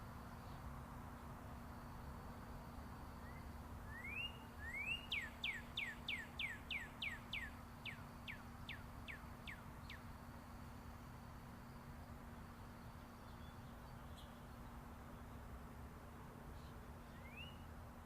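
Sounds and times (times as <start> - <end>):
distant highway traffic hum: 0.0 - 18.0
songbird singing: 0.0 - 18.0.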